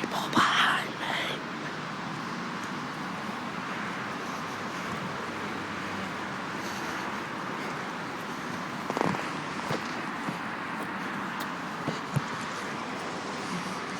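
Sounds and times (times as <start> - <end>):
traffic on a wet road: 0.0 - 13.9.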